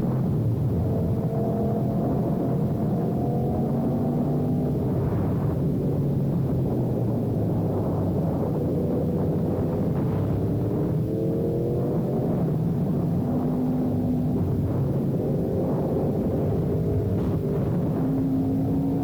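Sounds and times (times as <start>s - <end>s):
wind and road noise: 0.0s - 19.0s
motorcycle engine accelerating: 0.7s - 19.0s.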